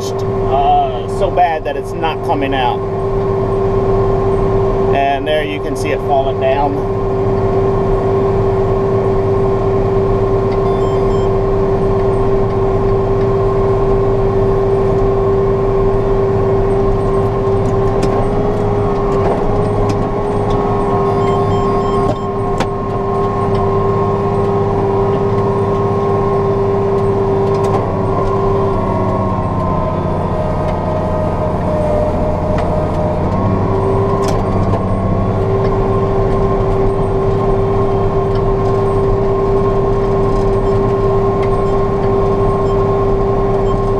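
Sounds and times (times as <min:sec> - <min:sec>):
spreader whine: 0:00.0 - 0:43.9
tractor engine hum: 0:00.0 - 0:43.9.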